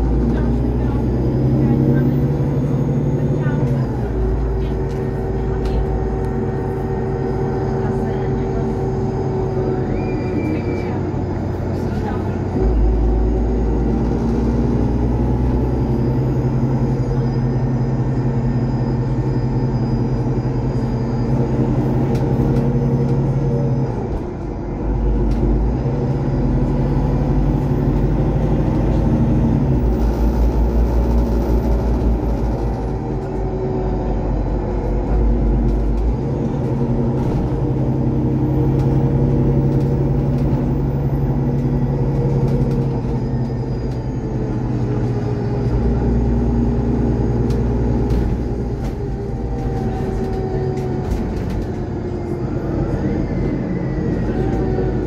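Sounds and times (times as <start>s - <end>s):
bus engine and road noise: 0.0s - 55.0s.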